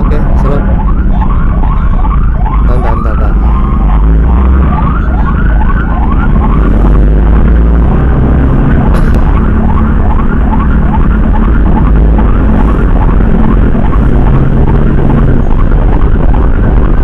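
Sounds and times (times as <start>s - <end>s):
emergency siren sweeping: 0.0s - 17.0s
engine and road rumble: 0.0s - 17.0s.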